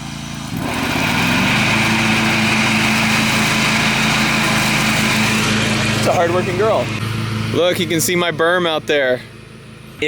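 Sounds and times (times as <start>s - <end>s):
mower blades whining: 0.0s - 10.0s
riding mower engine: 0.0s - 10.0s.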